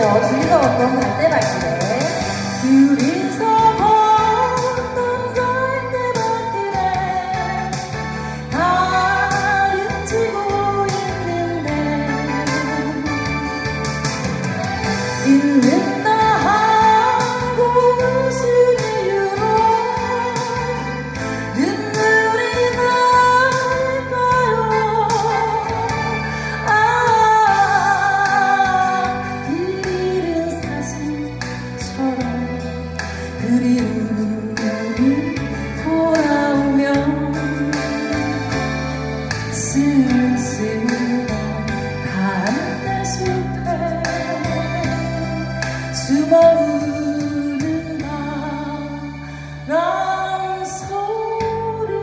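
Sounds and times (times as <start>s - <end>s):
backing track: 0.0s - 52.0s
person singing a ballad: 0.0s - 52.0s
sustained melody line: 0.0s - 52.0s.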